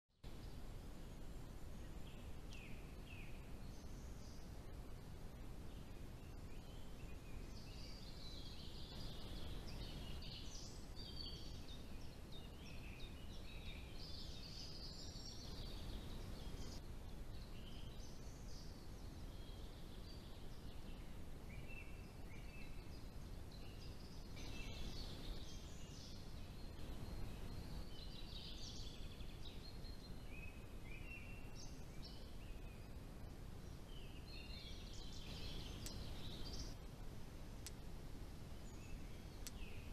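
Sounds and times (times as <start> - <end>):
low background rumble: 0.2 - 39.9
songbirds chirping: 0.2 - 39.9.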